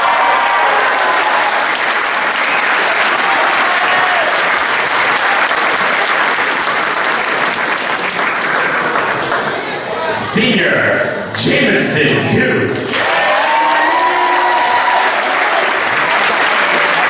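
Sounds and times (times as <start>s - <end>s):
crowd applauding: 0.0s - 10.0s, 12.8s - 17.0s.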